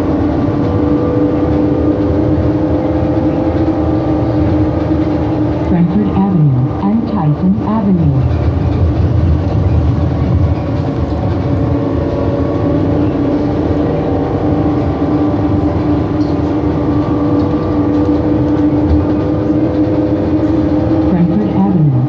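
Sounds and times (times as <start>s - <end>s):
road rumble: 0.0s - 22.0s
trolleybus drive whine: 0.0s - 22.0s.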